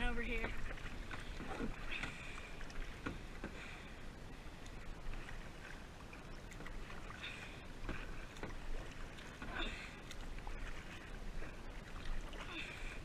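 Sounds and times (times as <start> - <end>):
paddle splashing in water: 0.0 - 13.0.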